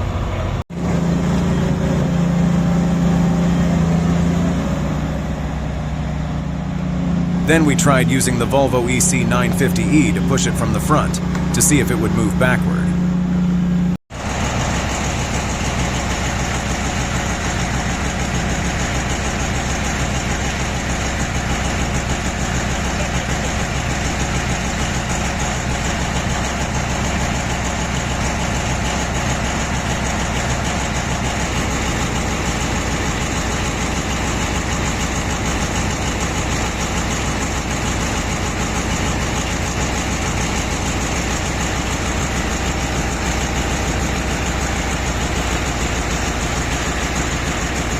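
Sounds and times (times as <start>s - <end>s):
heavy diesel engines running: 0.0s - 47.9s.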